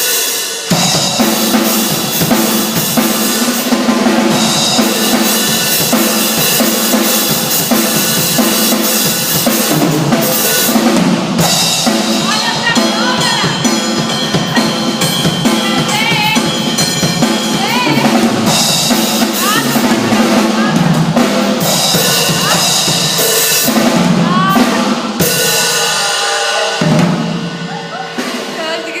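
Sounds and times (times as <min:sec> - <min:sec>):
drum kit playing: 0:00.0 - 0:29.0.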